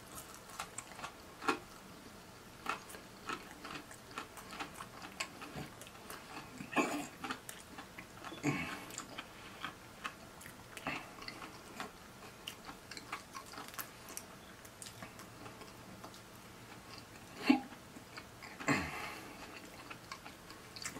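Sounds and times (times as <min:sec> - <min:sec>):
chewing crispy chicken: 0:00.0 - 0:20.9.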